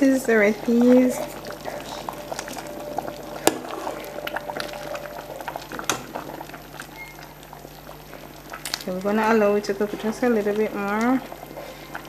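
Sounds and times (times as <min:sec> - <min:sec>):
soup bubbling in a pot: 0:00.0 - 0:12.0.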